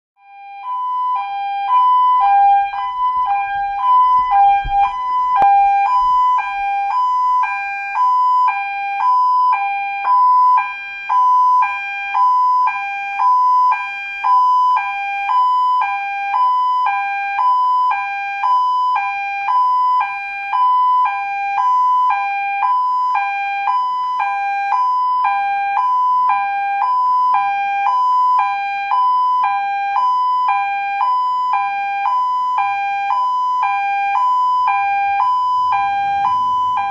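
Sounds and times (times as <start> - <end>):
two-tone emergency siren: 0.2 - 36.9.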